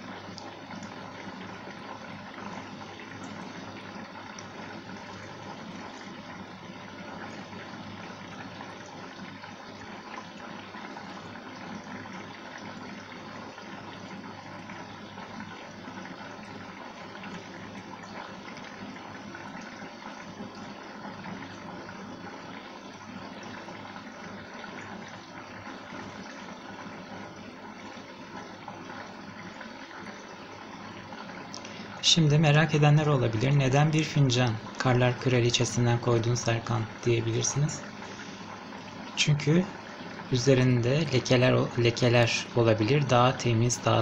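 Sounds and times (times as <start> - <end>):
water running into washing machine: 0.0 - 44.0.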